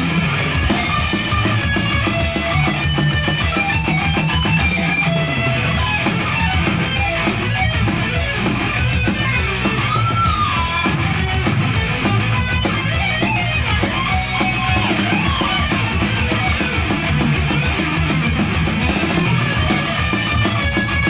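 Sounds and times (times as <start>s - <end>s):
lead guitar line: 0.0s - 21.0s
thrash metal music: 0.0s - 21.0s.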